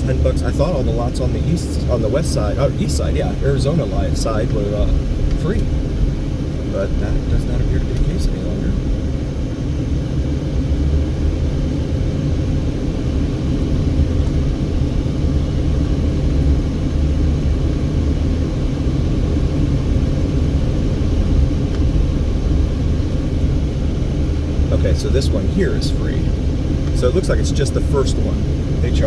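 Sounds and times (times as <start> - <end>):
car engine rumble: 0.0 - 29.0
tyre road noise: 0.0 - 29.0.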